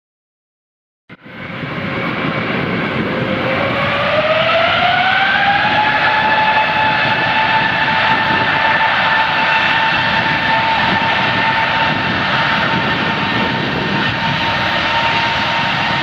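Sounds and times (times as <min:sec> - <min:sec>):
airplane engine roar: 0:01.1 - 0:16.0
rising engine whine: 0:01.1 - 0:16.0.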